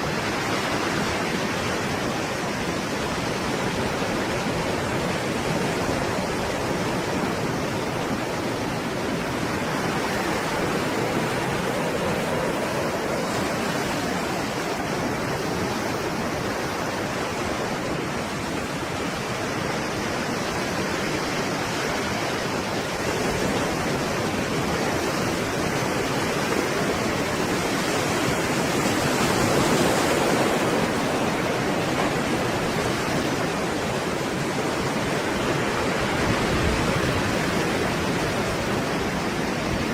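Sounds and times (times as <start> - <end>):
loud breaking waves: 0.0 - 39.9.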